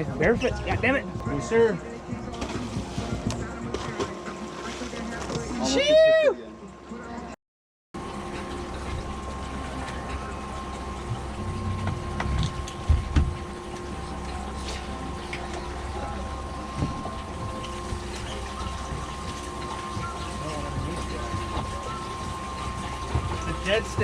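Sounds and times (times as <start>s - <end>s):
boat motor humming: 0.0s - 7.4s, 8.0s - 24.0s
water around hull: 0.0s - 7.4s, 8.0s - 24.0s.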